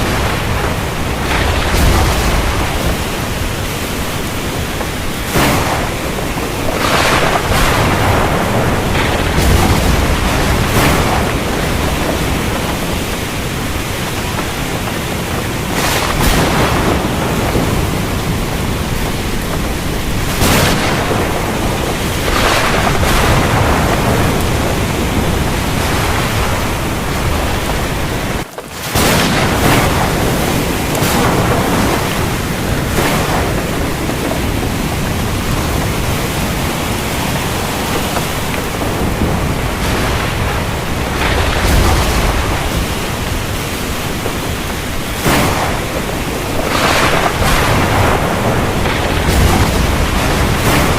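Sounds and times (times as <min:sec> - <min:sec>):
heavy rain falling: 0:00.0 - 0:50.9
thunder rumbling: 0:00.0 - 0:50.9.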